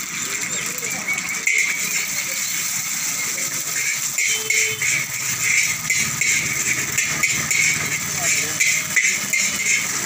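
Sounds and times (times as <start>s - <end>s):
egg and vegetables sizzling in wok: 0.0s - 10.0s
metal spatula scraping pan: 0.0s - 10.0s.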